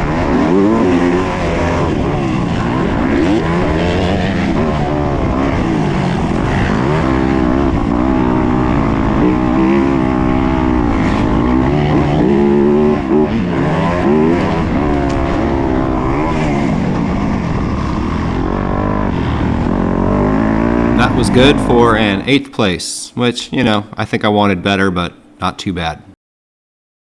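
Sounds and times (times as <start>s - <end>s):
motocross bike engine revving: 0.0s - 22.8s.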